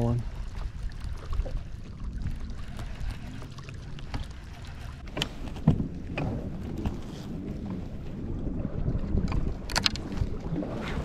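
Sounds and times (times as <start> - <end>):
water lapping around kayak: 0.0 - 11.0
wind buffeting microphone: 0.0 - 11.0.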